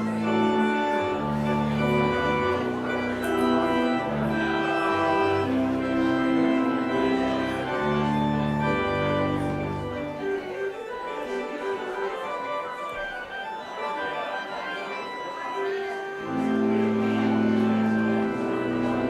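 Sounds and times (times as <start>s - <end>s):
church organ chords: 0.0s - 19.0s.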